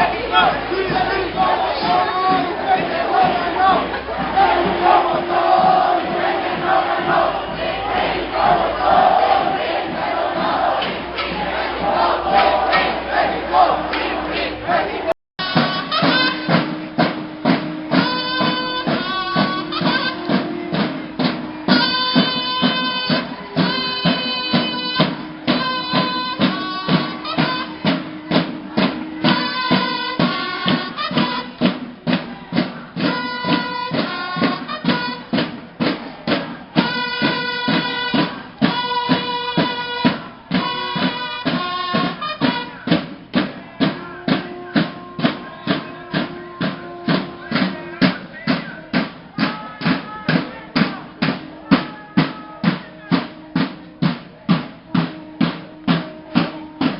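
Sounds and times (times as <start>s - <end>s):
music with steady drumbeat: 0.0s - 56.9s.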